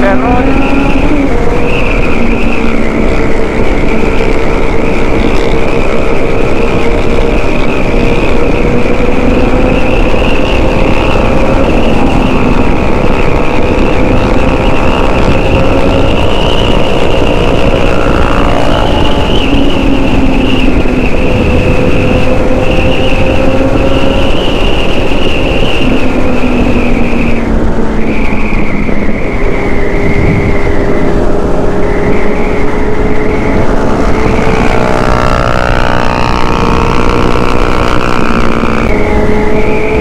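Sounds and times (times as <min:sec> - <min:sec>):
motorcycle engine cruising: 0:00.0 - 0:40.0
wind rushing: 0:00.0 - 0:40.0.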